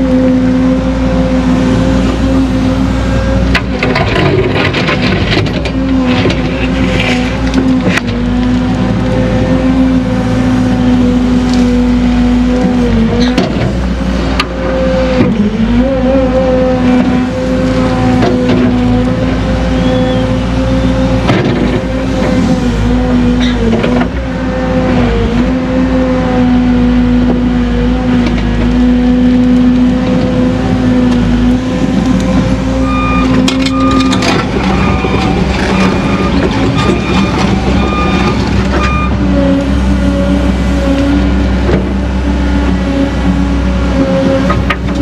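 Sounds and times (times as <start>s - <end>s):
excavator diesel engine and hydraulics: 0.0s - 45.0s.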